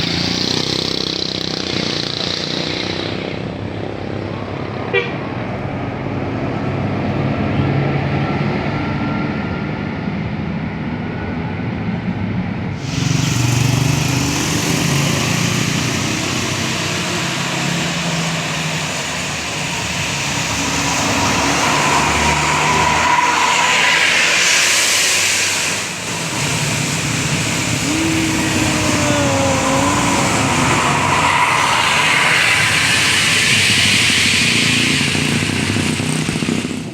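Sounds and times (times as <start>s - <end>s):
vehicles driving by: 0.0s - 36.9s.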